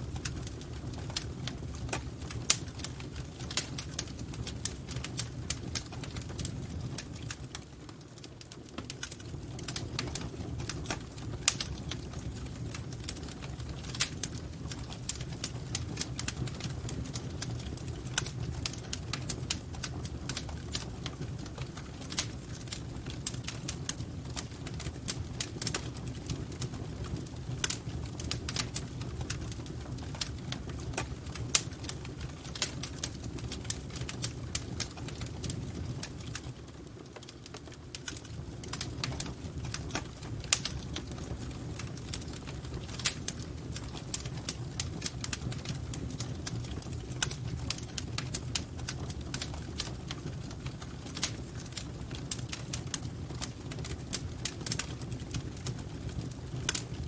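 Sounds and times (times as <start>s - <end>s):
low fire rumble: 0.0s - 57.0s
wood fire crackling: 0.0s - 57.0s.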